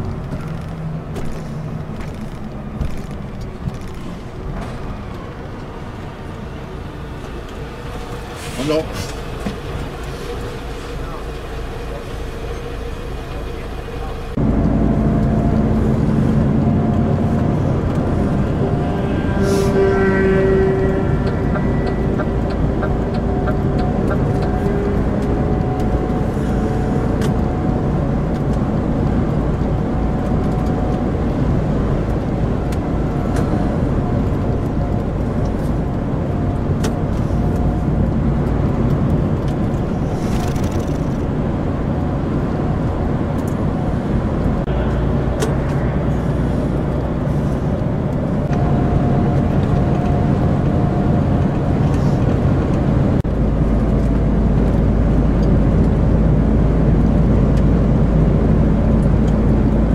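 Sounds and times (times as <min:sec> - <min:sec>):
road rumble: 0:00.0 - 0:59.9
truck engine drone: 0:00.0 - 0:59.9.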